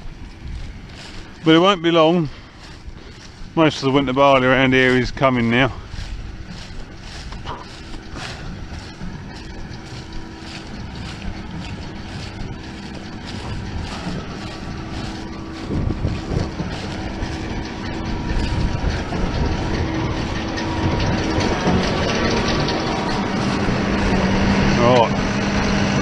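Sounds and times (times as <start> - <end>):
tractor and baler rumbling: 0.0 - 26.0.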